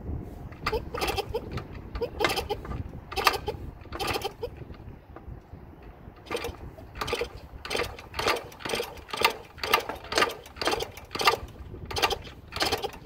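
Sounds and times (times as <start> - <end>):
motorcycle kick-start clatter: 0.5 - 4.9, 6.2 - 13.0.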